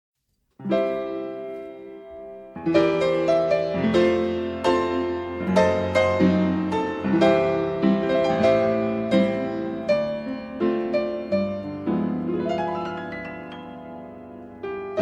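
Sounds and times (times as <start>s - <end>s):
piano chords: 0.6s - 15.0s.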